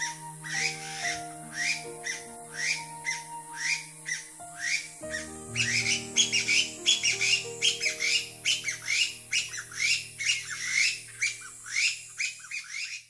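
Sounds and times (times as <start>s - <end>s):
partridges calling rapidly: 0.0s - 13.0s
soft background music: 0.0s - 13.0s.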